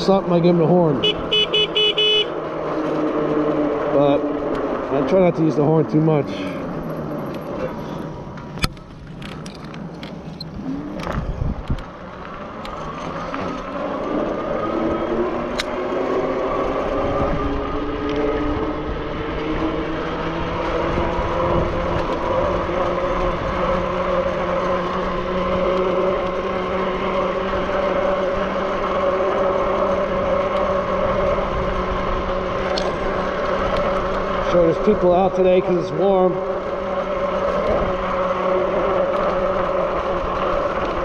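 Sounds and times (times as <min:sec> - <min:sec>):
electric bike motor whining: 0:00.0 - 0:41.0.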